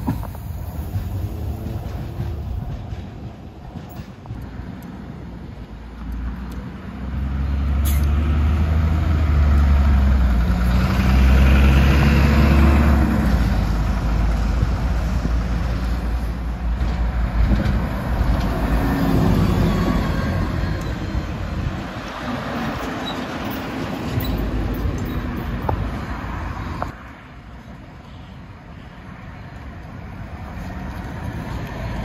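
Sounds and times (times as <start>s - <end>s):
bus engine accelerating: 0.0s - 26.9s
road noise: 0.0s - 32.0s.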